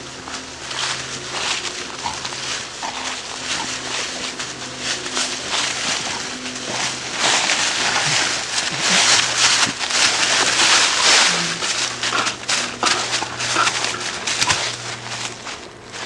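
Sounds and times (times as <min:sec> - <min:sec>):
dry leaves rustling and crunching: 0:00.0 - 0:16.0.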